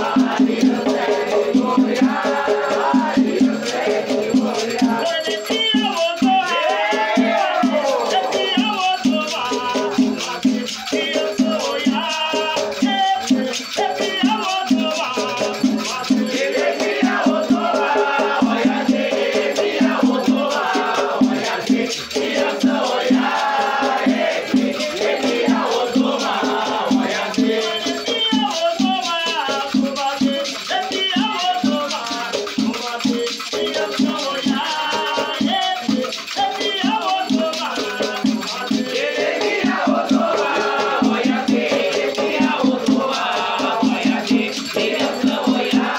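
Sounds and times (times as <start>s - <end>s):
shaker rattling: 0.0s - 45.9s
voices singing a chant: 0.0s - 45.9s.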